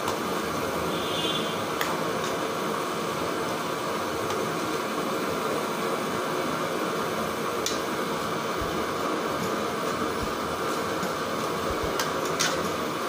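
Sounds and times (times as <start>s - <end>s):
steady noise: 0.0s - 13.0s.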